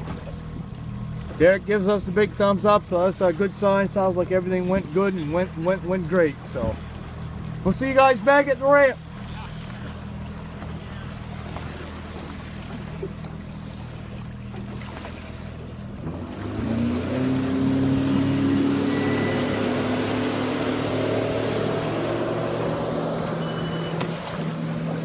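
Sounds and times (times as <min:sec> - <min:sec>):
outboard motor running: 0:00.0 - 0:25.0
water and wind rushing: 0:00.0 - 0:25.0.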